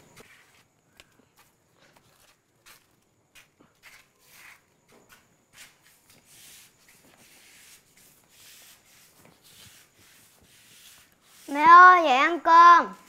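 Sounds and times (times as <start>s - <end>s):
footsteps on tiled floor: 0.0s - 12.0s.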